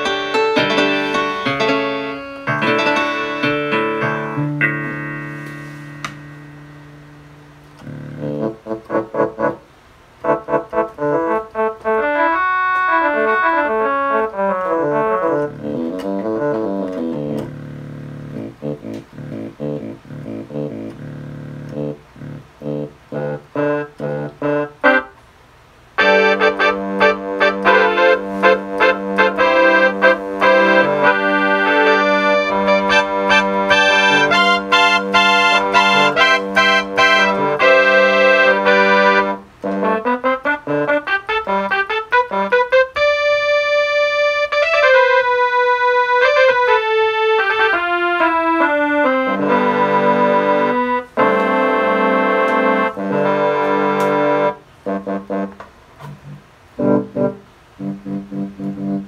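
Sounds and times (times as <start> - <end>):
electronic keyboard playing: 0.0 - 25.2, 26.0 - 59.0.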